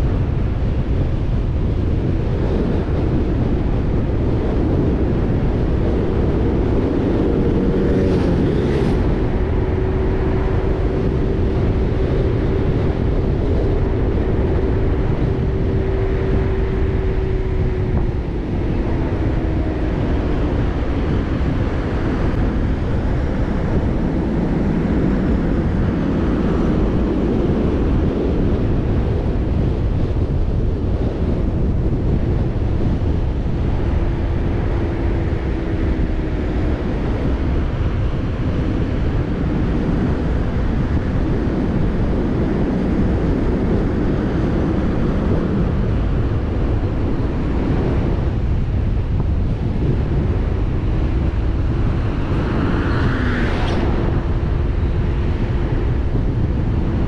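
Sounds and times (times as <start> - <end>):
car engine hum: 0.0 - 57.0
road rumble: 0.0 - 57.0
wind rushing over microphone: 0.0 - 57.0.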